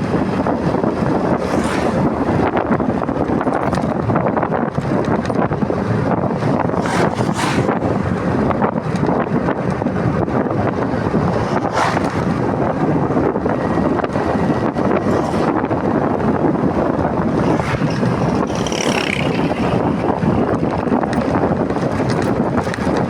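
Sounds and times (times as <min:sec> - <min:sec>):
motorcycle running: 0:00.0 - 0:23.0
road noise: 0:00.0 - 0:23.0
wind buffeting microphone: 0:00.0 - 0:23.0.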